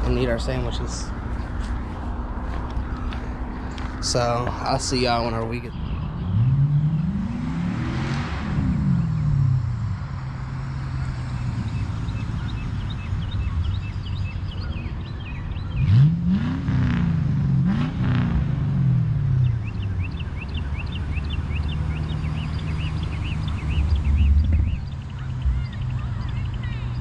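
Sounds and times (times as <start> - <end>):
cars accelerating past: 0.0 - 27.0
low traffic rumble: 0.0 - 27.0.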